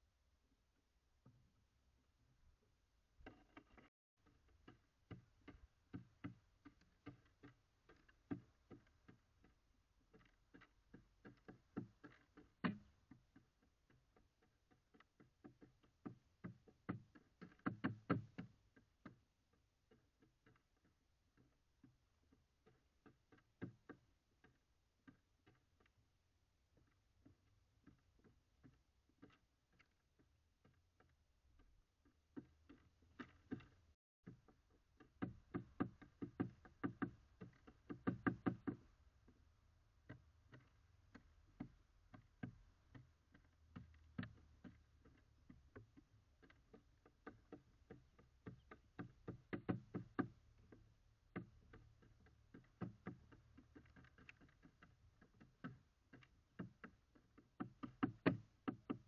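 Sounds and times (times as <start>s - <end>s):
beaks tapping on seed feeder: 3.2s - 59.0s.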